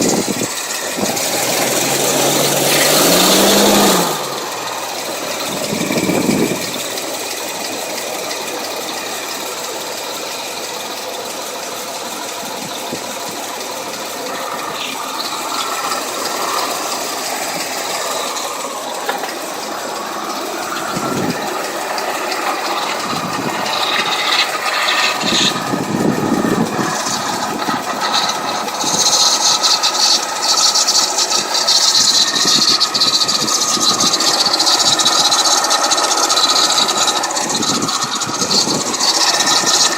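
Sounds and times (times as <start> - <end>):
car engine running with rattle: 0.0 - 39.9.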